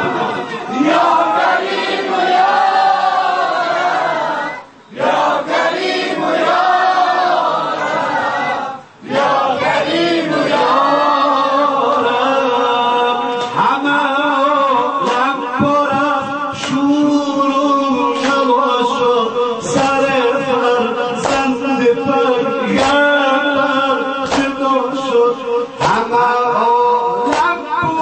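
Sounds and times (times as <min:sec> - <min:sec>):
chorus chanting a mourning lament: 0:00.0 - 0:28.0.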